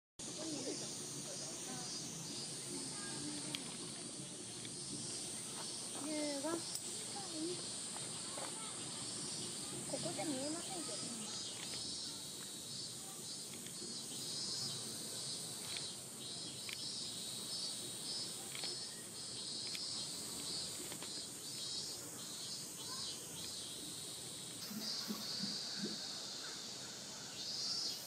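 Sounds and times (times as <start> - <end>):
cicadas buzzing: 0.2 - 28.0.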